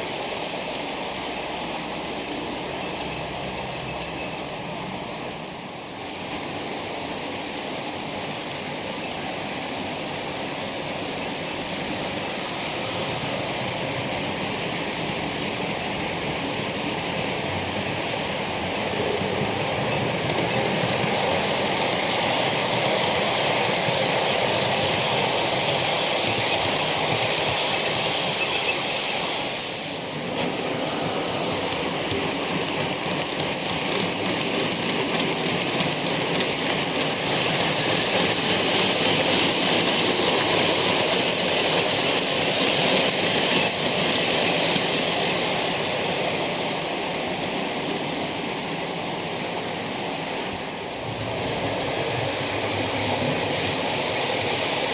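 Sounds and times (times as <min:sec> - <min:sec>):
model train wheels rolling: 0:09.8 - 0:29.8, 0:30.4 - 0:54.9.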